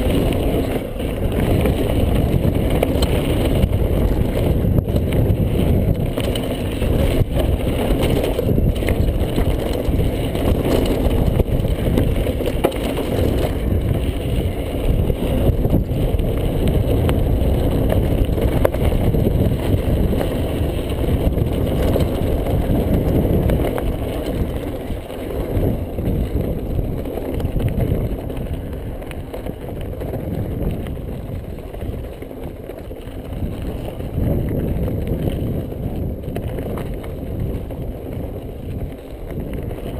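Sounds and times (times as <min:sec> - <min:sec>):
bike rattling over gravel: 0:00.0 - 0:39.9
wind on microphone: 0:00.0 - 0:39.9.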